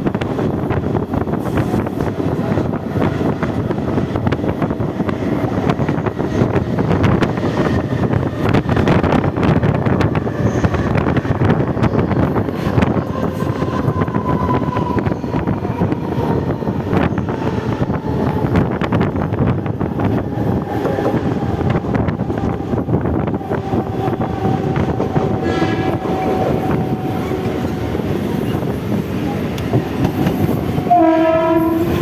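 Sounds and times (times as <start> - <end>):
track clicks and clatters: 0.0 - 30.9
train wheels rumbling on rails: 0.0 - 32.0
wind buffeting microphone: 0.0 - 32.0.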